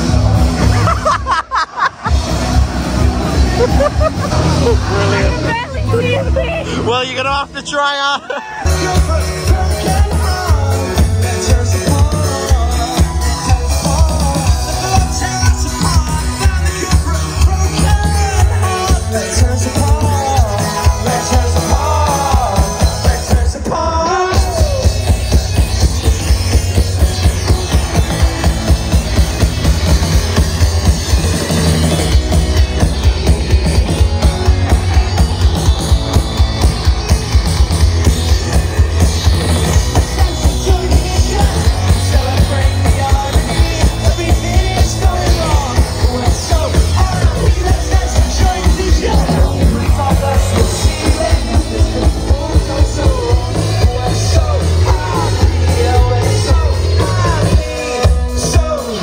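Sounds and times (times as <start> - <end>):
loud rock music: 0.0 - 59.0.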